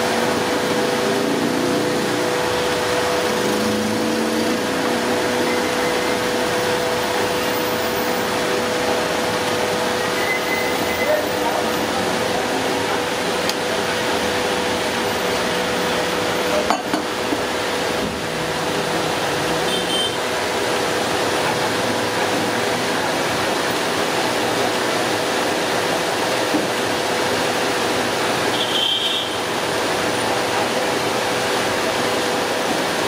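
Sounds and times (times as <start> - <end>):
mechanical hum: 0.0 - 33.0.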